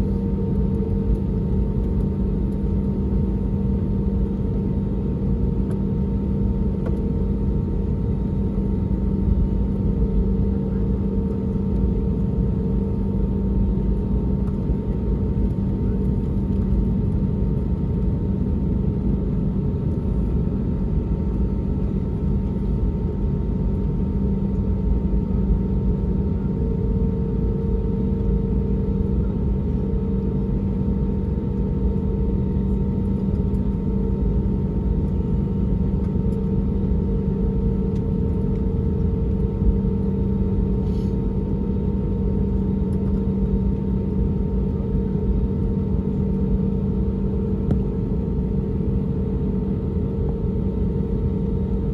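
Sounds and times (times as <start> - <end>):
airplane cabin drone: 0.0 - 51.9.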